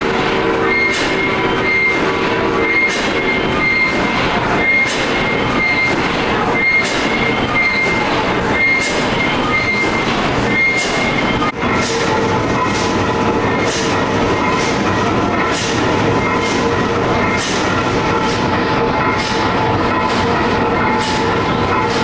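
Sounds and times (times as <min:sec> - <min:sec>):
pumping engine clattering: 0:00.0 - 0:22.0.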